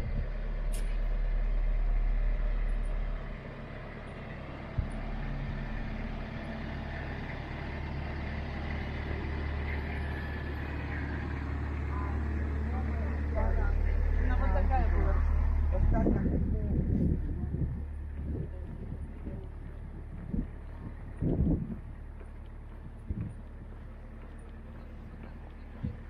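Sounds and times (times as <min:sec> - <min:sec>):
large engine running: 0:00.0 - 0:26.0.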